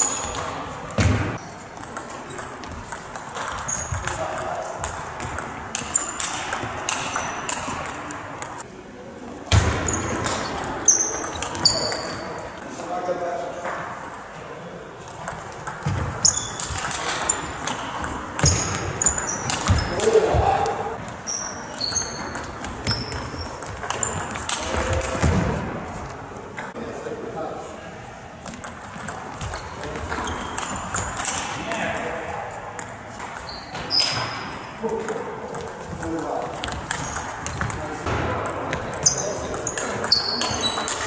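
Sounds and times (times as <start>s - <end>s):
table tennis balls clicking: 0.0s - 8.6s, 9.9s - 12.7s, 15.0s - 25.4s, 28.4s - 41.0s.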